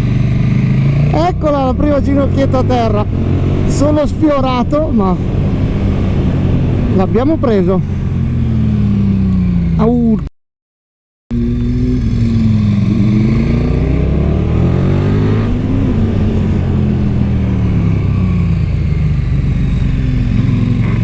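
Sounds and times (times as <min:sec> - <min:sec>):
motorcycle engine revving: 0:00.0 - 0:10.1, 0:11.3 - 0:21.0.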